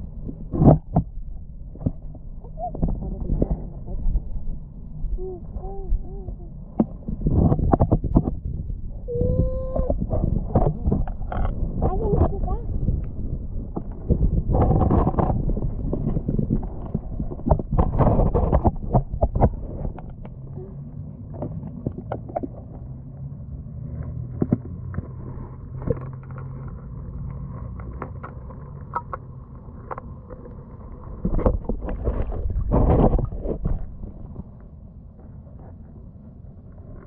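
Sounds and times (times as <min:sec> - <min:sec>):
muffled underwater water wash: 0:00.0 - 0:37.0.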